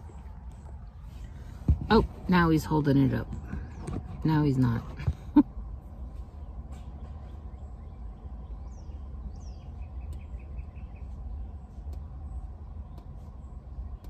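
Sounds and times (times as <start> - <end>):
birds chirping: 0.0 - 5.4, 6.1 - 14.0
steady low rumble: 0.0 - 14.0.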